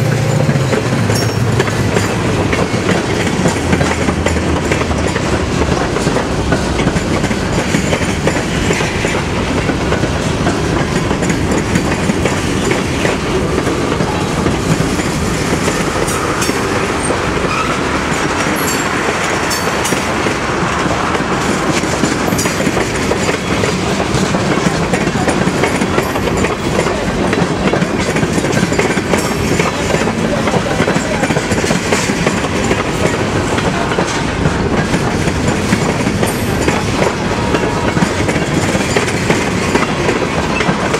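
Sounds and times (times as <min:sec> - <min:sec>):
freight train wheels rolling on rail: 0:00.0 - 0:40.9.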